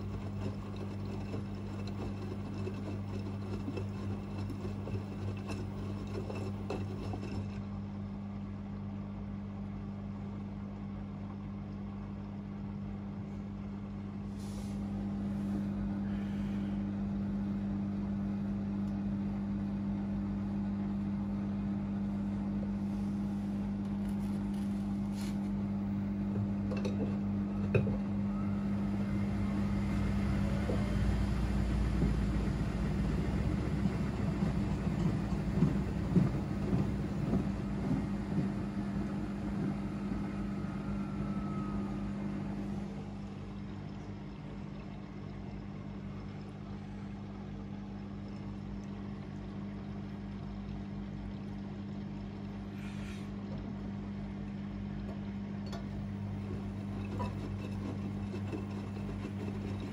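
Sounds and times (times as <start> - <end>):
washing machines running: 0.0 - 59.9.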